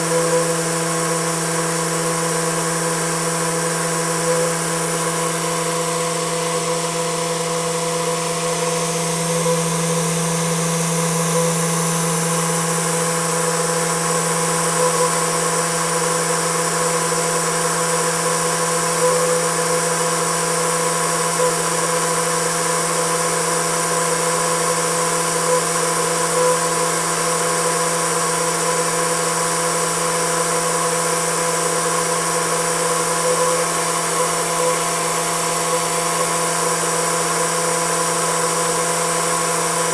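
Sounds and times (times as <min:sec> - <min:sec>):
turbine hum-whine: 0:00.0 - 0:39.9.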